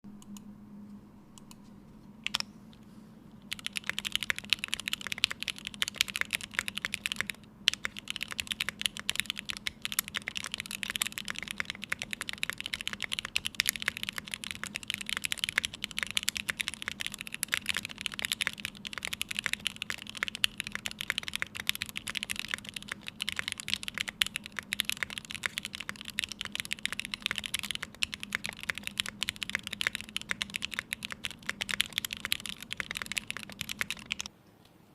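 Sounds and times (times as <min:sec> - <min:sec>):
fast typing on mechanical keyboard: 0:03.5 - 0:34.3.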